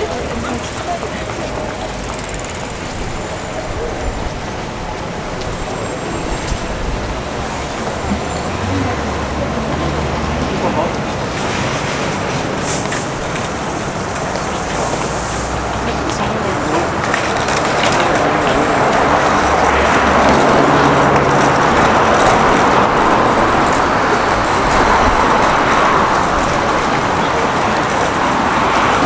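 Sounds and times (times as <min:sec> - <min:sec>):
vehicle passing: 0:00.0 - 0:29.0.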